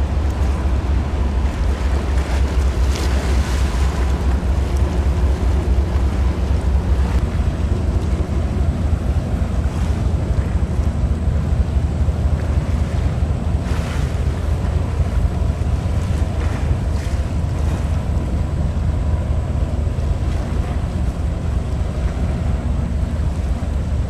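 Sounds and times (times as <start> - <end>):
waves washing: 0.0 - 24.0
wind buffeting microphone: 0.0 - 24.0.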